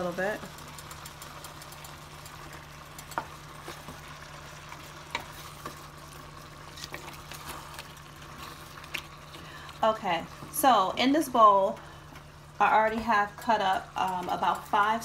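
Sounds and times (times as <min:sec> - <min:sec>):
faint steady sizzle: 0:00.0 - 0:15.0
wooden spoon stirring in pot: 0:01.2 - 0:15.0.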